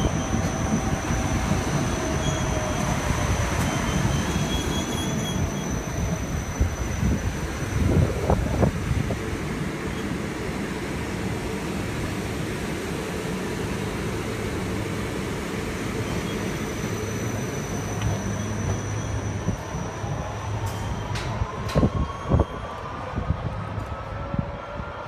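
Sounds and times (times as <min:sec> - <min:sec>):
rail and wheel rumble: 0:00.0 - 0:25.0
tram rolling past: 0:00.0 - 0:25.0.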